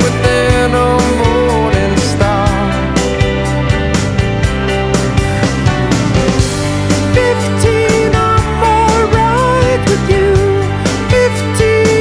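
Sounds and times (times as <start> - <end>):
pop-rock music: 0.0 - 12.0.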